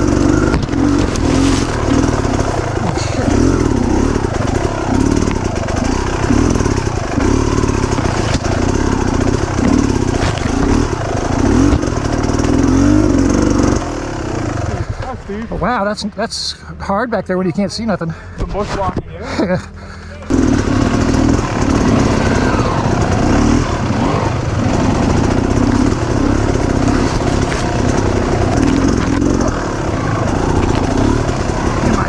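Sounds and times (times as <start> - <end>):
dirt bike engine revving: 0.0 - 16.2, 19.4 - 32.0.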